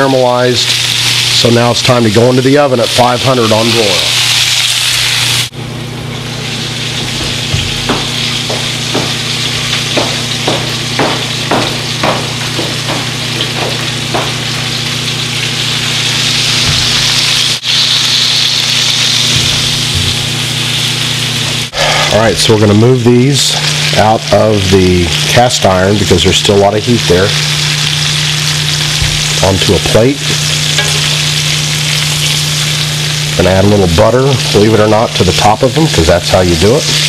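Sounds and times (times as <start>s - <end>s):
steaks sizzling in skillet: 0.0s - 37.0s
steady low hum: 5.4s - 35.4s.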